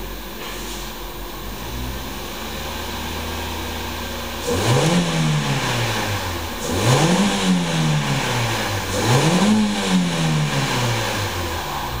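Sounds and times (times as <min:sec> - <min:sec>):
car engine revving: 0:01.5 - 0:12.0.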